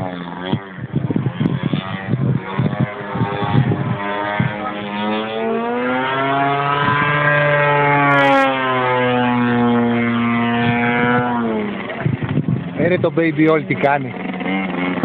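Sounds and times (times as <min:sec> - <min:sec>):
model airplane engine running: 0:00.0 - 0:15.0.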